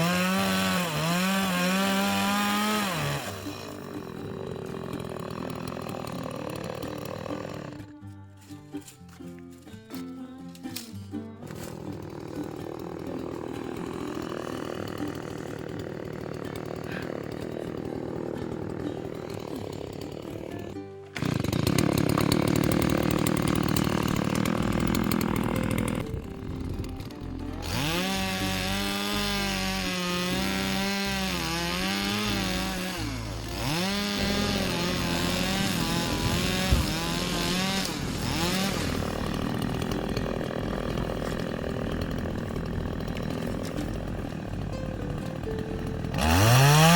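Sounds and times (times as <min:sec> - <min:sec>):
chainsaw cutting wood: 0:00.0 - 0:09.2, 0:10.6 - 0:46.9.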